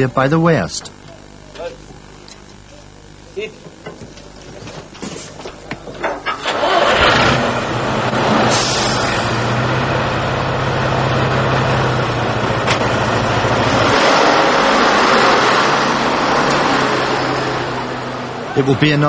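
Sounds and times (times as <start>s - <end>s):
diesel truck engine: 2.6s - 19.0s.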